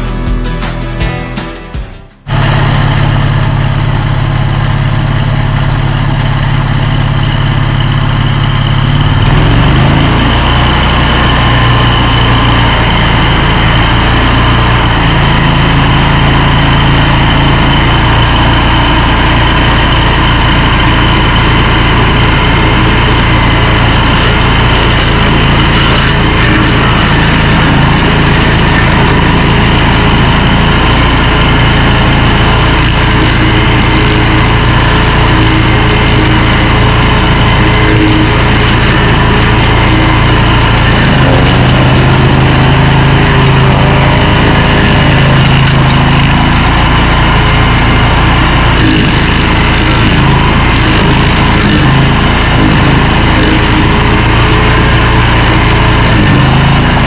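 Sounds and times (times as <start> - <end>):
stump grinder engine running: 2.2 - 57.0.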